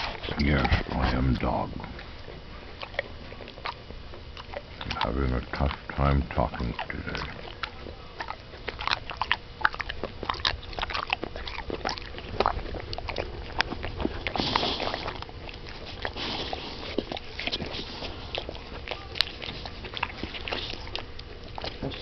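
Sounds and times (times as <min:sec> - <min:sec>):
dog chewing crunches: 0:00.0 - 0:22.0.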